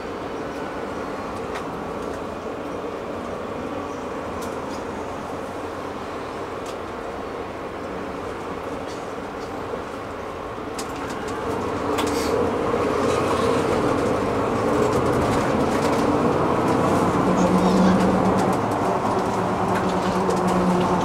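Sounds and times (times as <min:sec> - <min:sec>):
bus engine and road hum: 0:00.0 - 0:21.0.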